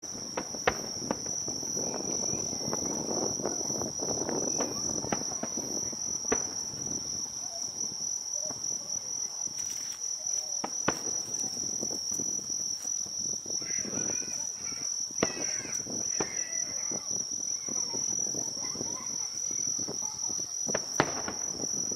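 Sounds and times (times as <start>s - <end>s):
crickets chirring: 0.0s - 21.9s.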